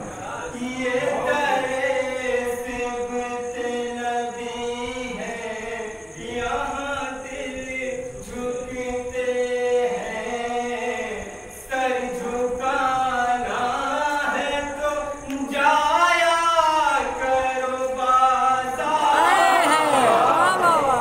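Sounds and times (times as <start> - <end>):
man chanting through a microphone: 0.0 - 21.0.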